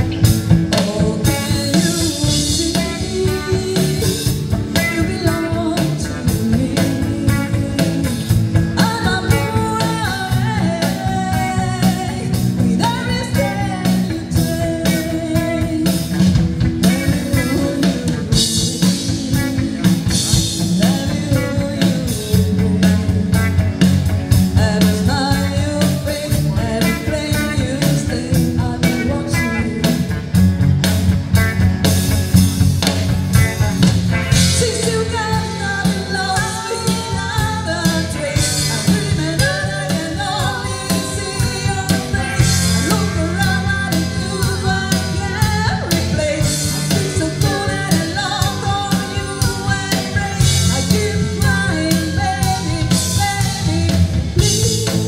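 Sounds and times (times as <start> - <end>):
rock band playing: 0.0 - 55.0
woman singing: 0.7 - 30.3, 34.3 - 55.0.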